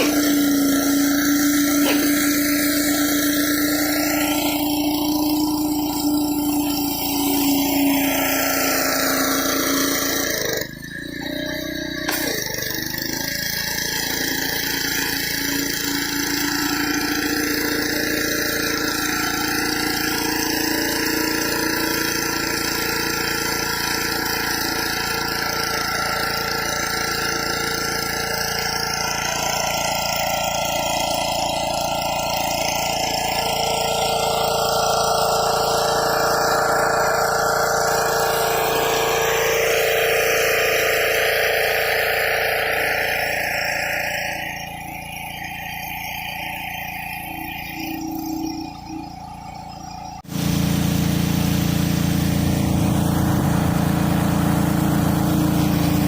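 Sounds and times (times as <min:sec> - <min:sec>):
water jet hissing on concrete: 0:00.0 - 0:43.9, 0:50.2 - 0:56.0
pressure washer engine drone: 0:00.0 - 0:56.0.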